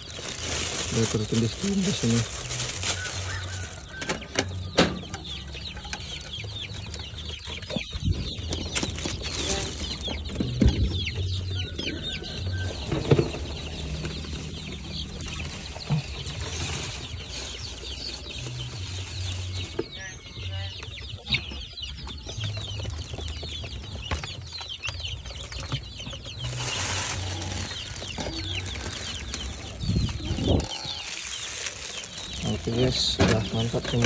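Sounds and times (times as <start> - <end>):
chickens clucking and calling: 0.0 - 34.0.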